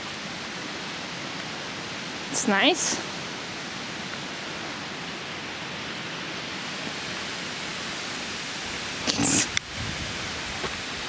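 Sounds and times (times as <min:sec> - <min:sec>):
creek waterfall rushing: 0:00.0 - 0:11.0.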